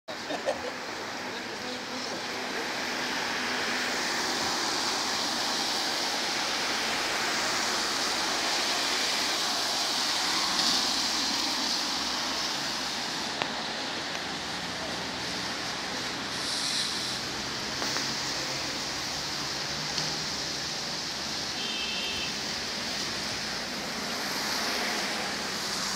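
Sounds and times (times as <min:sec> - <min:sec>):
car tyres on wet asphalt: 0:00.1 - 0:25.9
wet street hiss: 0:00.1 - 0:25.9.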